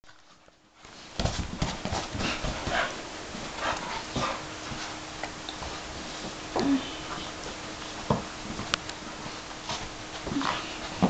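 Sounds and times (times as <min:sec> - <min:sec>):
dogs playing with ball on carpet: 0:00.1 - 0:11.0.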